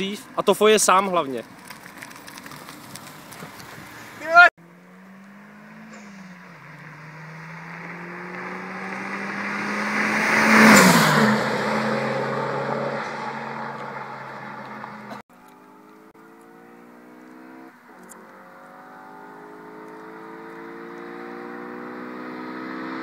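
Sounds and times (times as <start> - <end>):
car passing at speed: 3.8 - 23.0.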